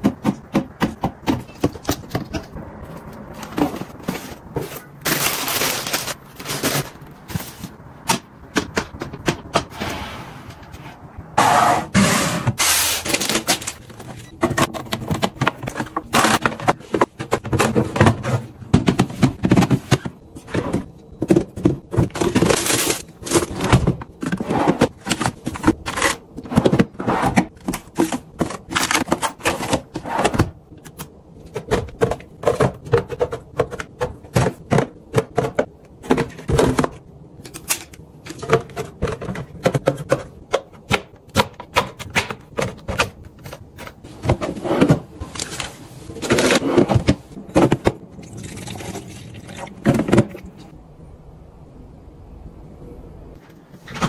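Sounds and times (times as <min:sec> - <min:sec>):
plastic bins clicking and knocking: 0:00.0 - 0:09.8, 0:11.4 - 0:48.4, 0:49.4 - 0:50.7.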